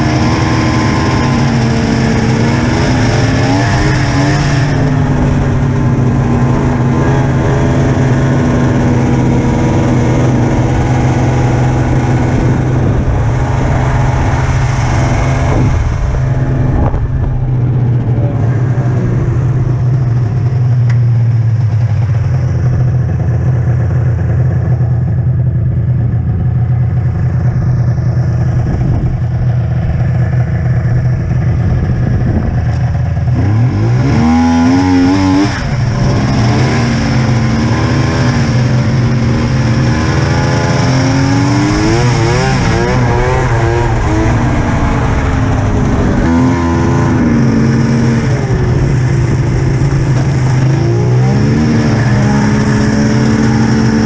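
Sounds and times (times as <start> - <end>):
snowmobile engine revving: 0.0 - 21.2, 21.8 - 54.0.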